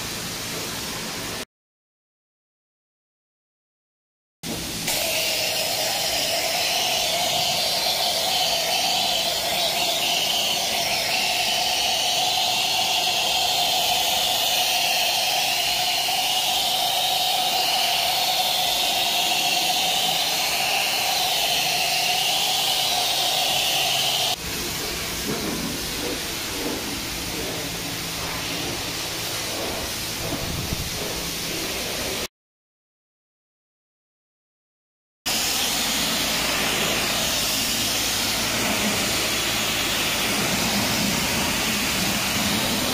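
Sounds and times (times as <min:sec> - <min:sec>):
foam lance spraying hiss: 0:04.5 - 0:32.3, 0:35.3 - 0:42.9
steady whine: 0:04.5 - 0:32.3, 0:35.3 - 0:42.9.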